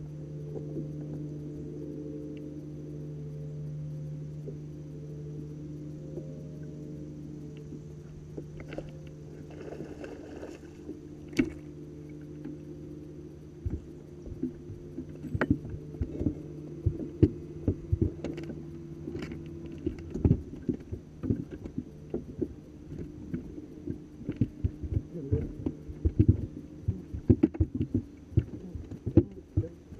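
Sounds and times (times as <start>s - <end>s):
trolling motor humming: 0.0s - 29.9s.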